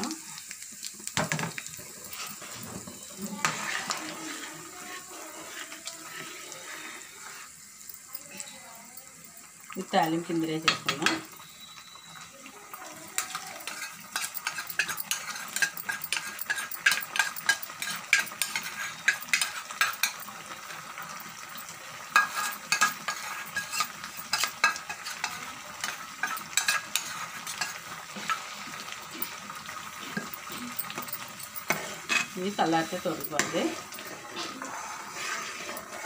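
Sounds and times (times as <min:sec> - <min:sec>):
steady sizzle: 0:00.0 - 0:36.0.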